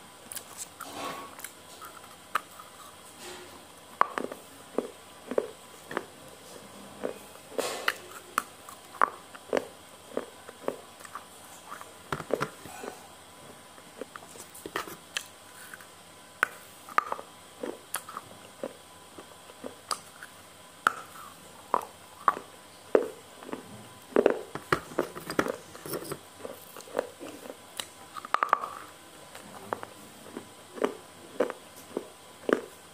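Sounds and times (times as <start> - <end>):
person chewing noodles: 4.1 - 6.2, 7.0 - 15.9, 16.5 - 32.9.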